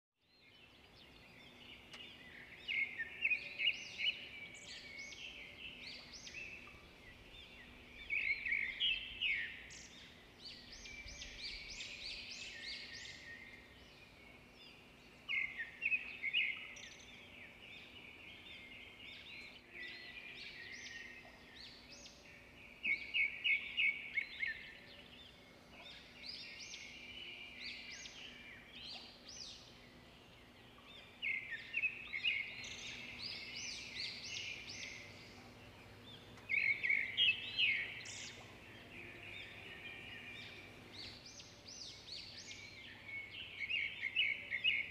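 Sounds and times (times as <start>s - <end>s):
small birds chirping: 0.2s - 44.9s
faint steady hum: 0.6s - 44.9s.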